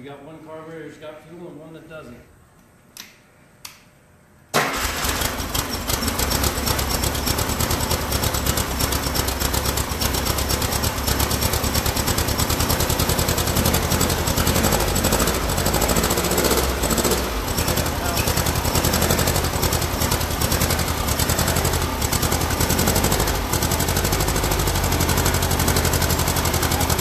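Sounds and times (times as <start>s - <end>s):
car engine starting and running: 4.6s - 27.0s.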